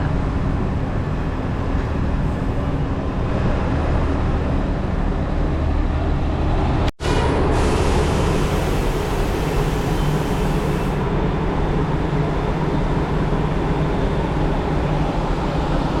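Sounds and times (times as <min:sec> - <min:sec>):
road noise: 0:00.0 - 0:16.0
vehicle engine rumbling: 0:00.0 - 0:16.0.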